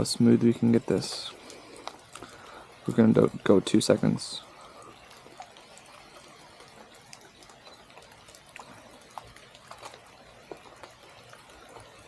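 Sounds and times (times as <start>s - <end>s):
light rain hiss: 0.0s - 12.0s
water drip ticks: 0.0s - 12.0s.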